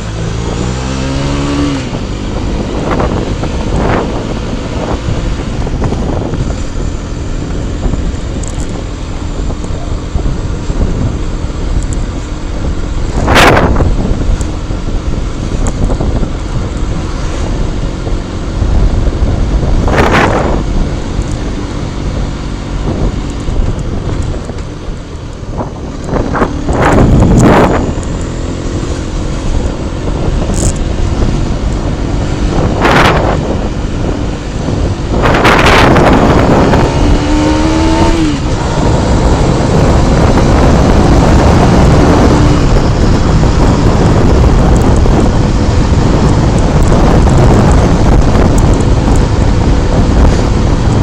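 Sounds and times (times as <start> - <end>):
loud wind whooshes: 0.0 - 51.0
motorcycle engine running: 0.0 - 51.0
wind buffeting microphone: 0.0 - 51.0.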